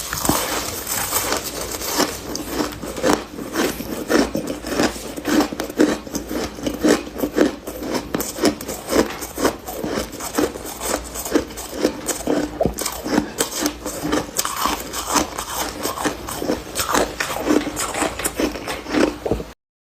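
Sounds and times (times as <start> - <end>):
mouth crunching frost: 0.0 - 19.2.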